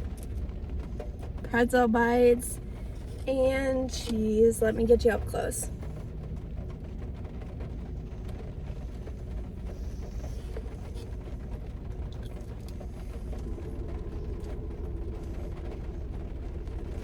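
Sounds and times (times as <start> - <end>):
faint steady hum: 0.0 - 17.0
low rumble inside car: 0.0 - 17.0.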